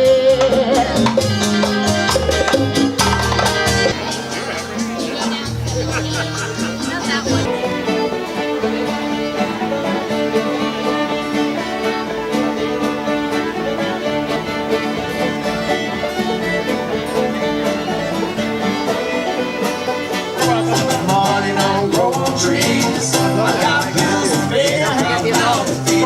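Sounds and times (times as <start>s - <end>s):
bluegrass string band playing: 0.0s - 26.0s
fiddle: 0.0s - 26.0s.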